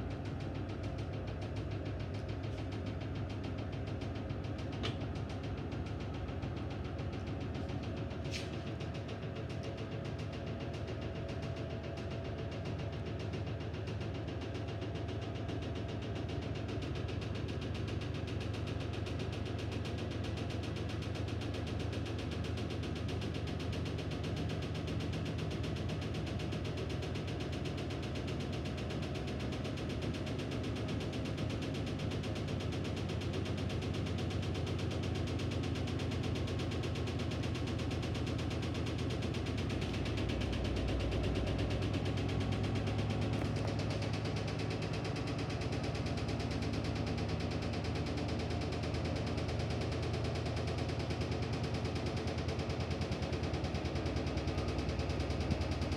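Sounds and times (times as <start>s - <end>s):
washing machine motor humming: 0.0s - 55.9s.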